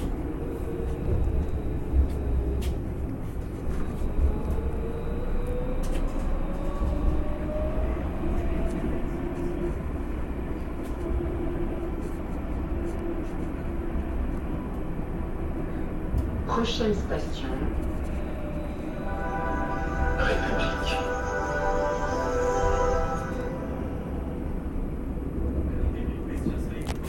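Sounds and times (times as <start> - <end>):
tram wheels rumbling on rails: 0.0 - 27.0.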